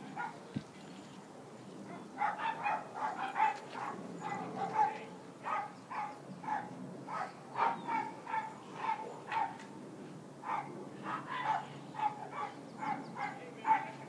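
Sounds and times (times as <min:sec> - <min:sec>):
dog barking: 0:00.2 - 0:00.4, 0:01.9 - 0:09.6, 0:10.4 - 0:14.0.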